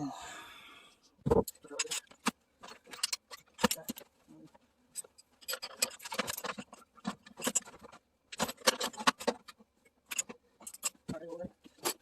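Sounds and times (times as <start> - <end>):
hand tools clicking and clattering: 1.3 - 12.0.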